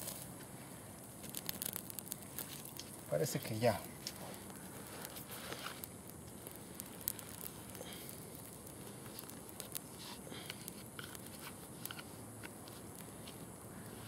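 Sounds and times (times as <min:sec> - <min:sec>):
small fire crackling and popping: 0:00.0 - 0:14.0.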